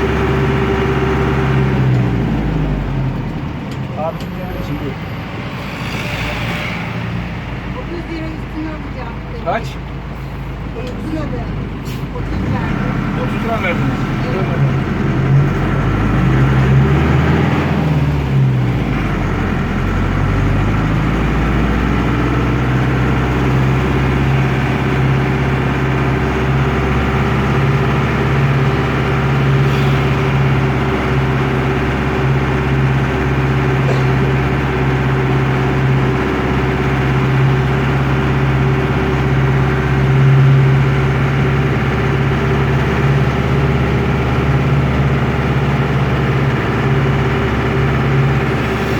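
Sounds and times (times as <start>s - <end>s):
diesel bus engine from inside: 0.0s - 48.9s.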